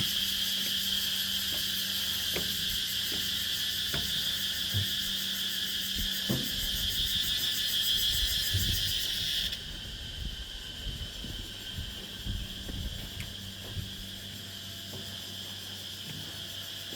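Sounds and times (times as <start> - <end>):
insects buzzing: 0.0 - 16.9.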